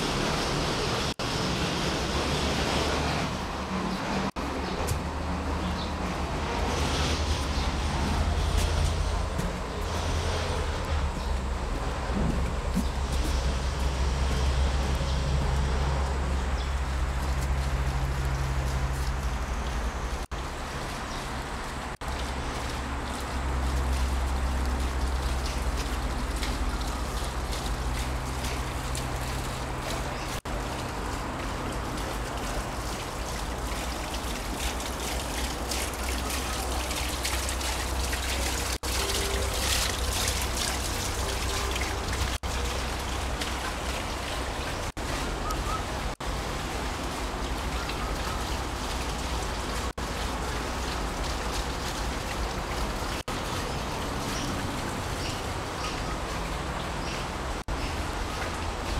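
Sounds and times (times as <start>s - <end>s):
running water trickling: 0.0s - 58.9s.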